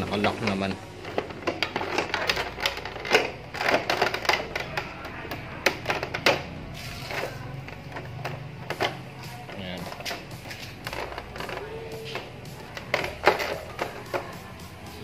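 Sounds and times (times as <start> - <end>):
background music: 0.0 - 15.0
plastic panel clicking and knocking: 0.1 - 6.6, 7.6 - 14.4.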